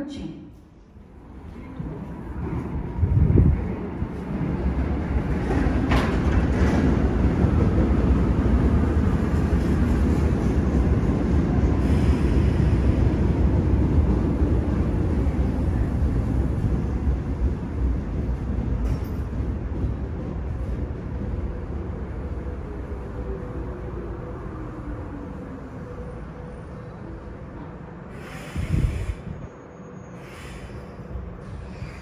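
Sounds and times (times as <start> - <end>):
train wheels and motors rumbling: 0.6 - 32.0.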